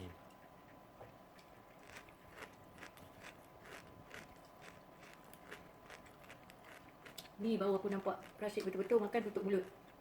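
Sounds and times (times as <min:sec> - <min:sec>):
chewing crunchy chocolate: 0:01.4 - 0:10.0.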